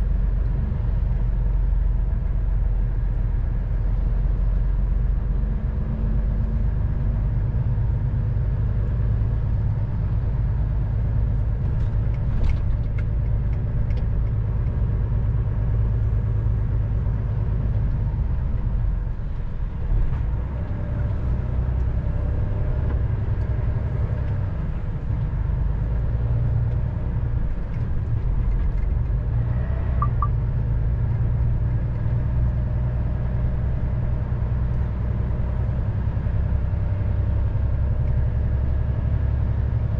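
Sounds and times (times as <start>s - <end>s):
lorry engine and road noise: 0.0s - 39.9s.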